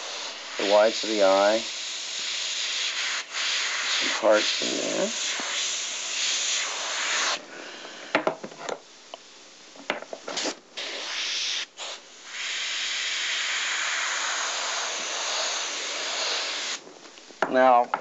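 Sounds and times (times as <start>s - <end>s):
airbrush spraying air hiss: 0.0s - 8.2s, 10.2s - 16.9s.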